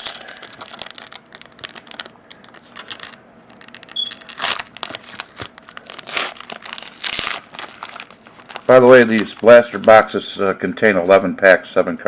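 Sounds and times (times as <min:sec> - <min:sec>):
wrapper tearing and crinkling: 0:00.0 - 0:10.1.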